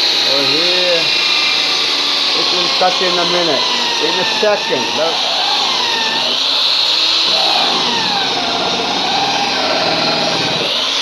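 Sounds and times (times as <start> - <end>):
electric drill cutting: 0.0 - 11.0.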